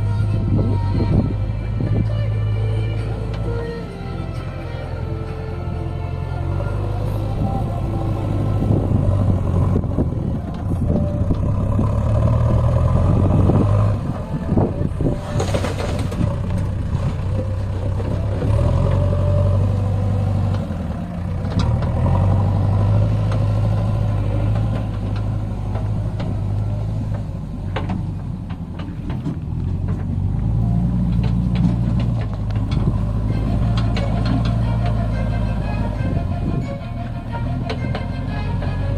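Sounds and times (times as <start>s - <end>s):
heavy diesel engine under load: 0.0s - 38.9s.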